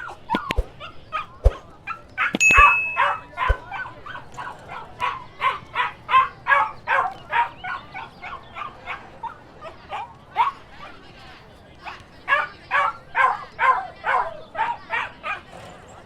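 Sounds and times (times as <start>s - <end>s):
dogs barking and yipping: 0.0s - 11.1s, 11.8s - 15.6s.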